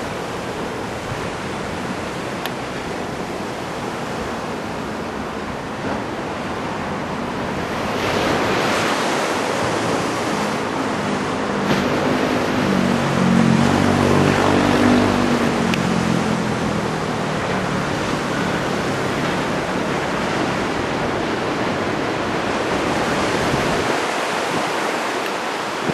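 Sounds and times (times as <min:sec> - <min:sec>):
gusting wind: 0:00.0 - 0:25.9
surf breaking and rushing: 0:00.0 - 0:25.9.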